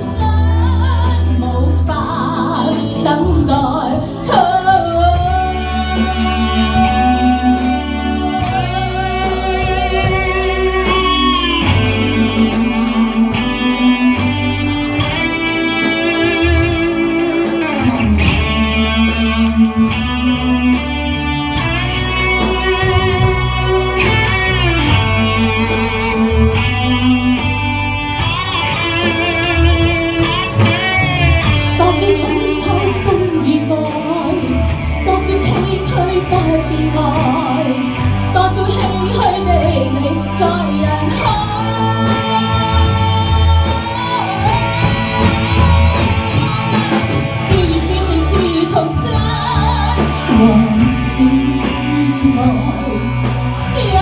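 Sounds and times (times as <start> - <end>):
electric guitar lead melody: 0.0 - 54.0
live band playing: 0.0 - 54.0.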